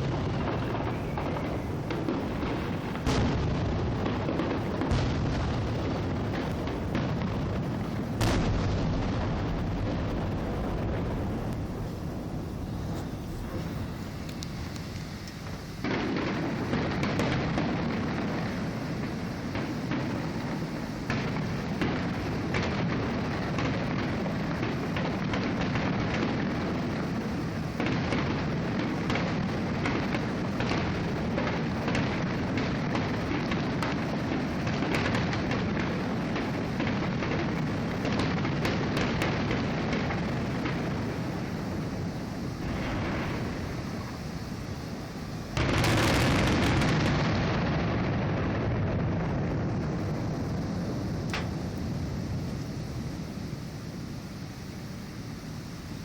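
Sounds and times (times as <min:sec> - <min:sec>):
fireworks booming: 0:00.0 - 0:56.0
fireworks cracking: 0:00.0 - 0:56.0.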